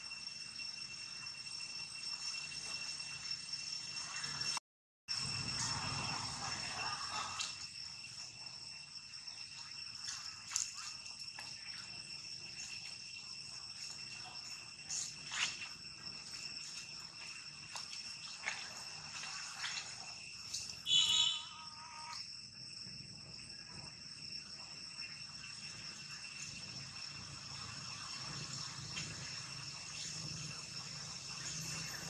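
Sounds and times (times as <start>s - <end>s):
loud insect call: 0.0s - 32.0s
short insect chirps: 0.0s - 32.0s
shrill insect chorus: 0.0s - 32.0s.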